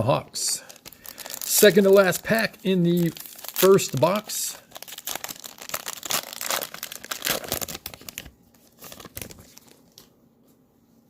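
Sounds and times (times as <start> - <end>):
foil wrapper tearing and crinkling: 0.6 - 9.8.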